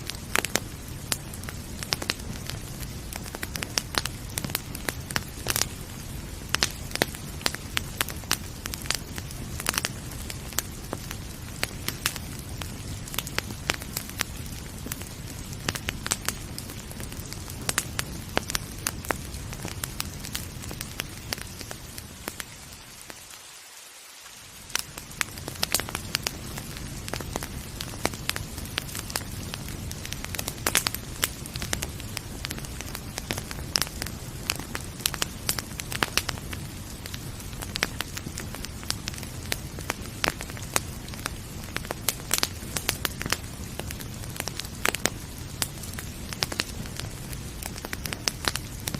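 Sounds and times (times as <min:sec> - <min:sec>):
wood fire crackling and popping: 0:00.0 - 0:23.4, 0:24.3 - 0:48.9
rain hiss: 0:00.0 - 0:48.9.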